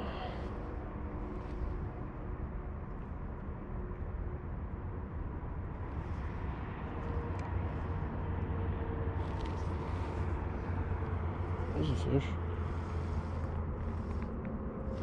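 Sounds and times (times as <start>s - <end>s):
faint steady hum: 0.0s - 15.0s
low outdoor rumble: 0.0s - 15.0s.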